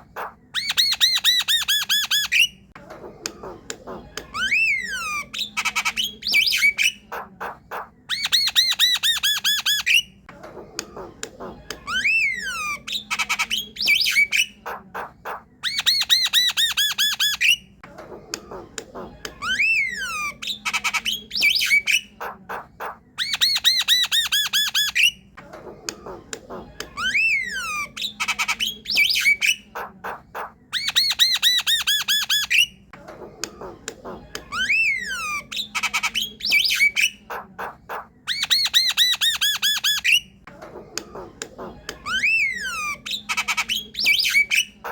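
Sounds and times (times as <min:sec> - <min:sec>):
myna harsh clicks and squawks: 0:00.0 - 0:44.9.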